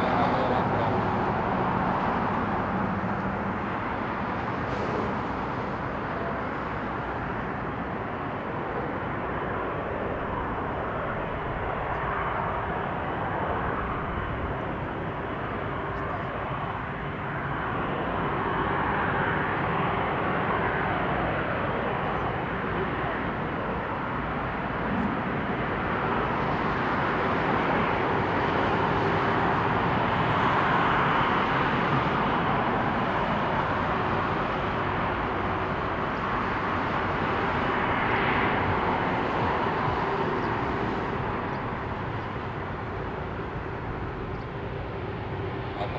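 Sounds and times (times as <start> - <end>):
jet engines roaring and whining: 0.0 - 45.9.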